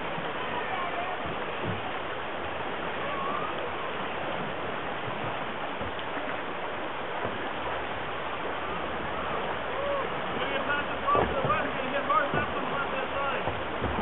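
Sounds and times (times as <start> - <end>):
river rushing over riffles: 0.0 - 14.0.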